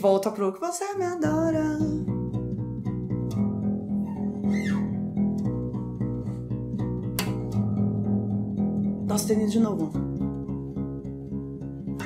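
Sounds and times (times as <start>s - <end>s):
acoustic bass guitar plucked: 0.0s - 12.0s.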